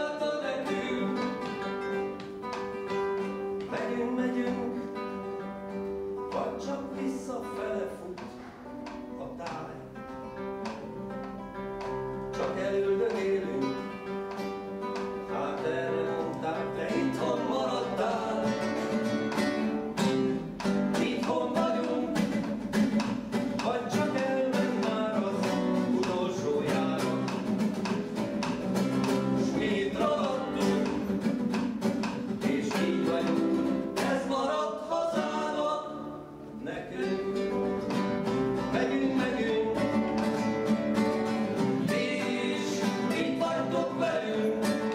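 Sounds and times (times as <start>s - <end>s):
acoustic guitar plucked notes: 0.0s - 44.9s.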